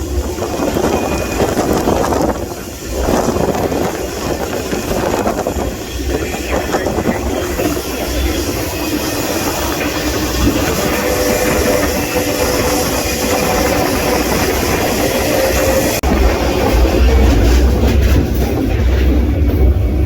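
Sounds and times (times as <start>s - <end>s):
freight train rumbling: 0.0s - 20.0s
train wheels clicking on rail joints: 0.0s - 20.0s.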